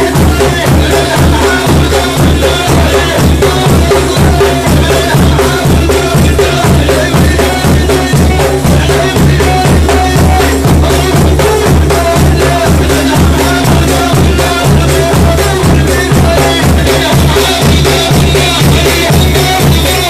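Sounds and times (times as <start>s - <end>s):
drums beating steady rhythm: 0.0s - 20.0s
person chanting: 0.0s - 20.0s.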